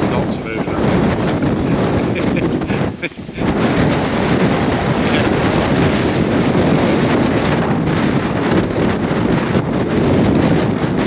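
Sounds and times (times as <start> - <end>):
gusty wind on microphone: 0.0 - 11.0.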